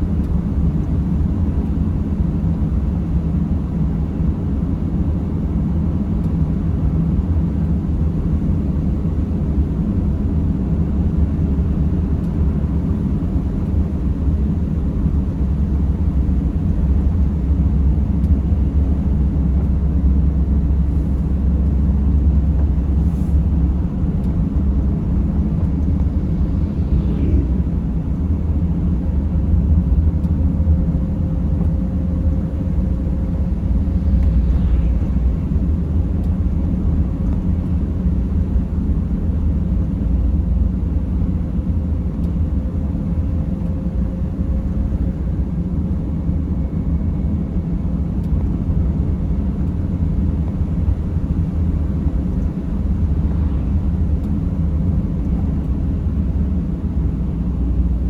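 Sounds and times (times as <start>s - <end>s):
road noise: 0.0s - 58.0s
van engine rumble: 0.0s - 58.0s.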